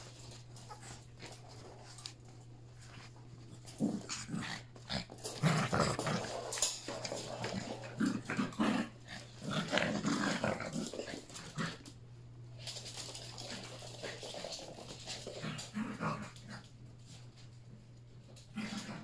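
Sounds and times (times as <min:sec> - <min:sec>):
puppies growling in play: 0:00.0 - 0:17.4, 0:18.3 - 0:19.0.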